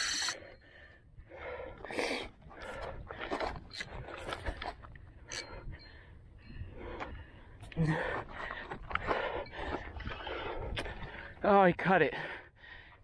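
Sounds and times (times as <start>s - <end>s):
man breathing hard: 0.0s - 11.4s, 12.1s - 13.0s.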